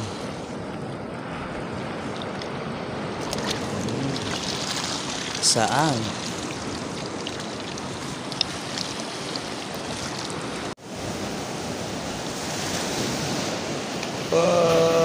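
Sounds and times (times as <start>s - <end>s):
surf breaking on reef: 0.0s - 15.0s.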